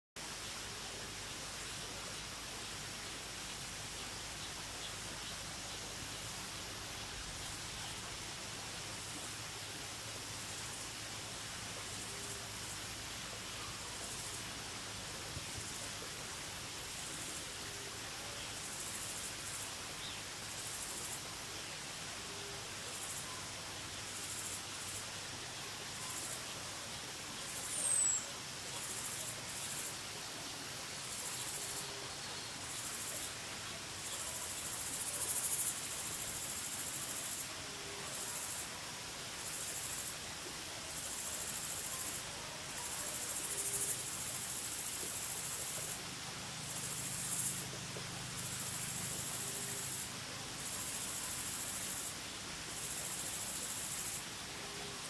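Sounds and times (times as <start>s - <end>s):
insects trilling: 6.1s - 55.0s.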